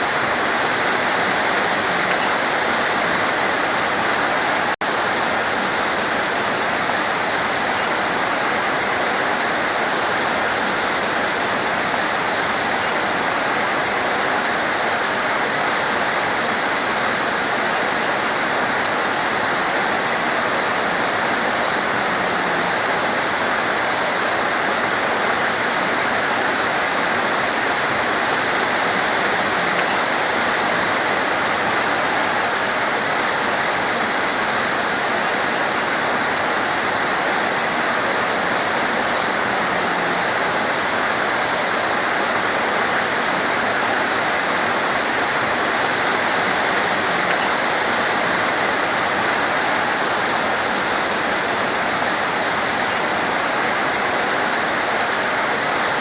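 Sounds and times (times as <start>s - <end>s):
torrential rain pouring: 0.0s - 56.0s.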